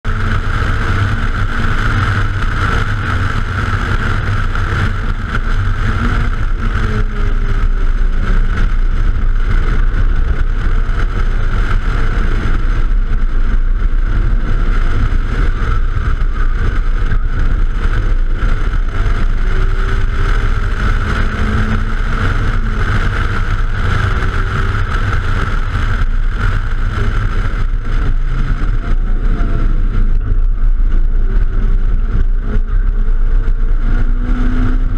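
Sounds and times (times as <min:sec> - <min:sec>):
car engine rising and falling: 0:00.0 - 0:34.9
heavy wind rumble: 0:00.0 - 0:34.9.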